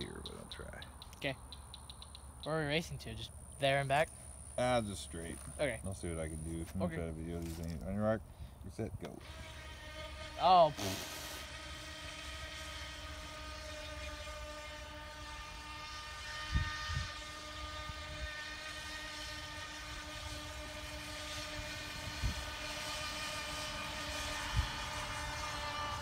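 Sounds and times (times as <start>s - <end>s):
rc boat motors whining: 0.0s - 26.0s.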